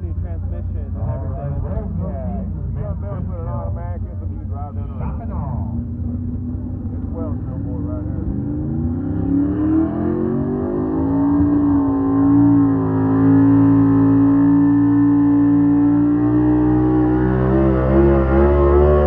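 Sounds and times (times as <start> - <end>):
truck engine at full throttle: 0.0 - 19.0.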